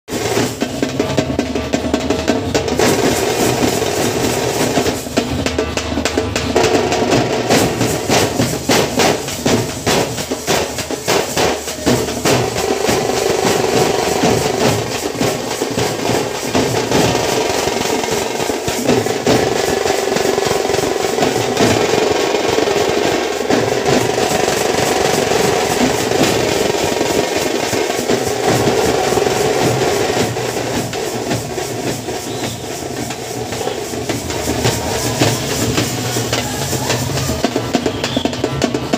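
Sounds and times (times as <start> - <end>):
drums playing fast rhythm: 0.0 - 38.9
bass drums: 0.1 - 38.9.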